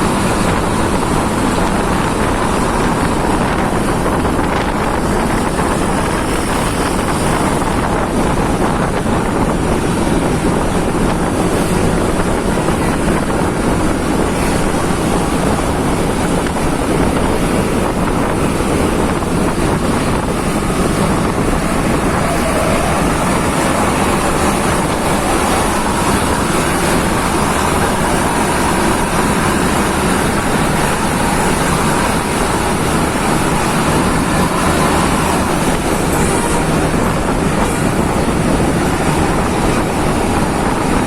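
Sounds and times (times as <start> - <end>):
moving vehicle rumble: 0.0 - 41.0
wind noise on microphone: 0.0 - 41.0.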